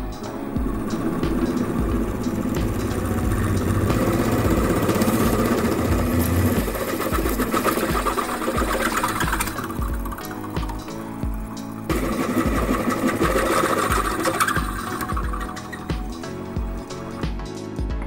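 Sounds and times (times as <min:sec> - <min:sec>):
drill motor hum: 0:00.0 - 0:17.1
drill bit grinding metal: 0:00.6 - 0:16.2.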